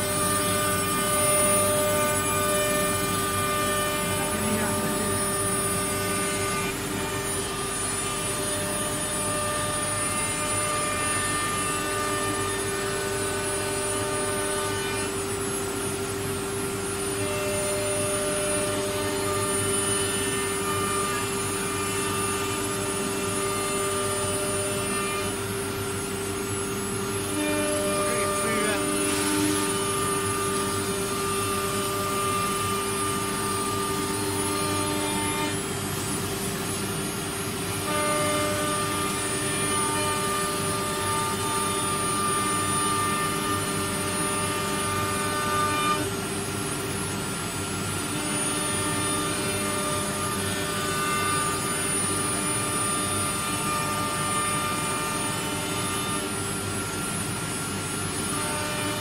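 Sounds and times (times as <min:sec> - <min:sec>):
router machine hum and whine: 0:00.0 - 0:59.0.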